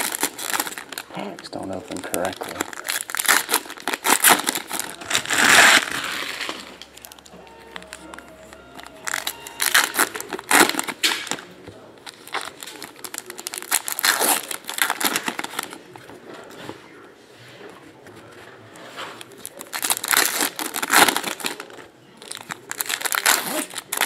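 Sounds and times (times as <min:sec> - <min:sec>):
foil wrappers crinkling and tearing: 0:00.0 - 0:16.9, 0:18.2 - 0:24.0.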